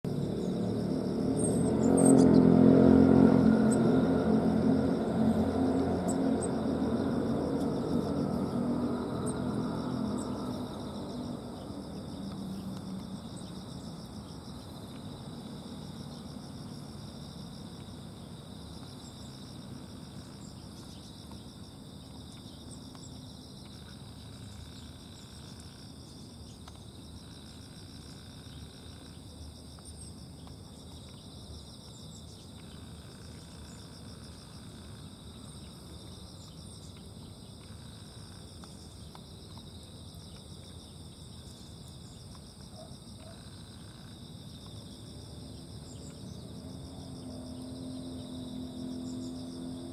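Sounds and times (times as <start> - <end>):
insects trilling: 0.1 - 49.9.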